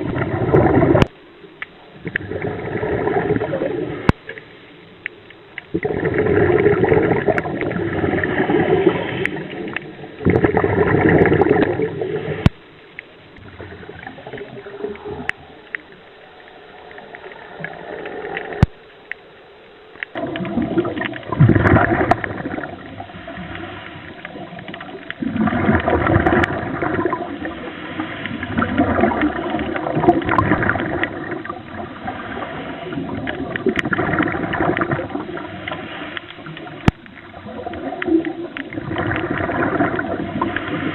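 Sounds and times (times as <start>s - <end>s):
water bubbling underwater: 0.0s - 19.3s, 19.9s - 40.9s.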